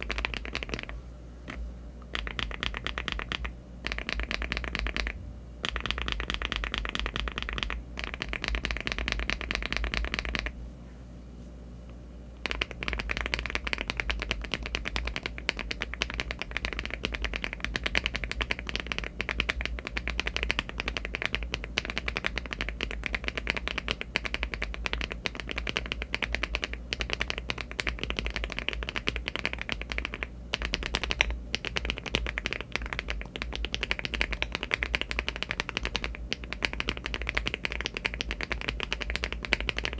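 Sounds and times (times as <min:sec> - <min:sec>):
mechanical keyboard typing: 0:00.0 - 0:01.0, 0:02.1 - 0:10.5, 0:12.4 - 0:39.9.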